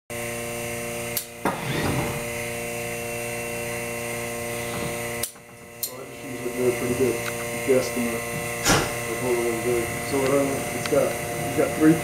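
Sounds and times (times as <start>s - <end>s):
electric machine hum and whine: 0.1s - 12.0s.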